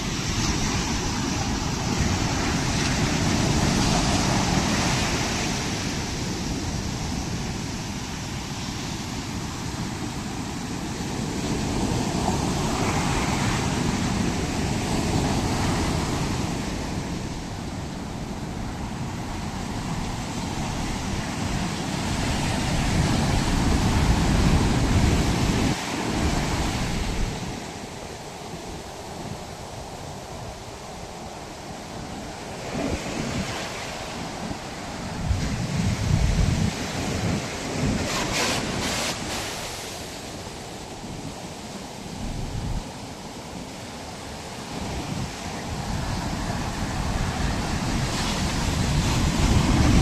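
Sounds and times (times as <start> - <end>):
wind buffeting microphone: 0.0 - 43.7, 44.4 - 50.0
ocean waves breaking: 0.0 - 50.0.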